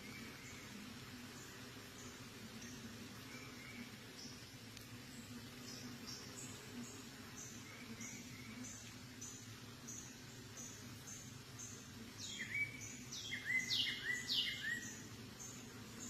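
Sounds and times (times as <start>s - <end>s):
honeybee hive humming: 0.0s - 16.0s.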